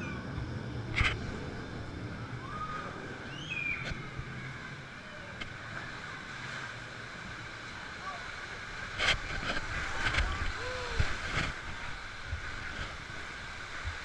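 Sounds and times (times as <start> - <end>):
rushing water: 0.2 - 14.0.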